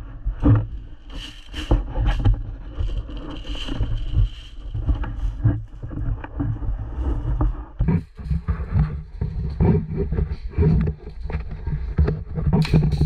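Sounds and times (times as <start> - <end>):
gear rustling against camera: 0.4 - 7.3, 8.0 - 13.0.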